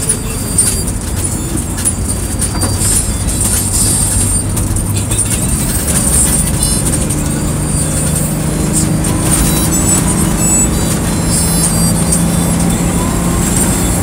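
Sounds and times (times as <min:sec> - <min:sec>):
car cabin road and engine drone: 0:00.0 - 0:14.0.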